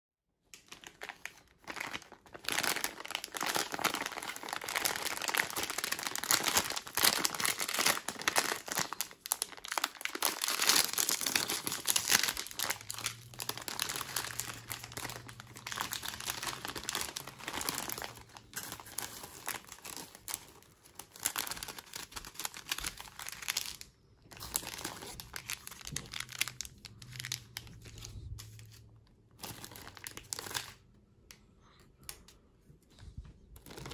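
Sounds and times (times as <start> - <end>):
plastic wrapper crinkling: 0.5 - 30.9, 33.6 - 33.9.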